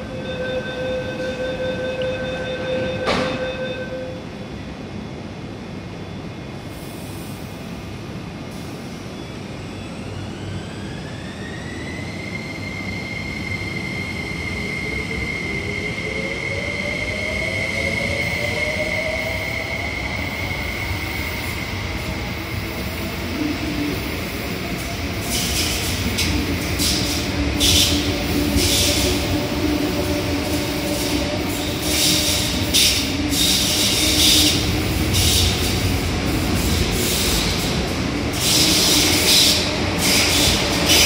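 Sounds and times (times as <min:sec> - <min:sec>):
train running noise: 0:00.0 - 0:41.0.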